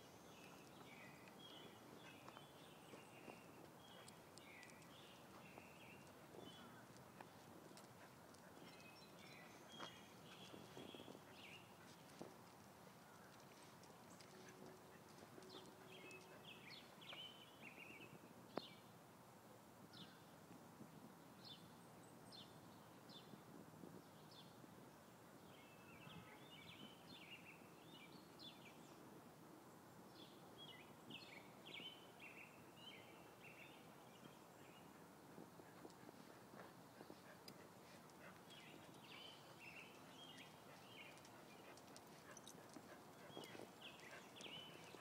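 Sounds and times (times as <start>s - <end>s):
songbird chirping: 0.0s - 19.0s, 24.0s - 45.0s.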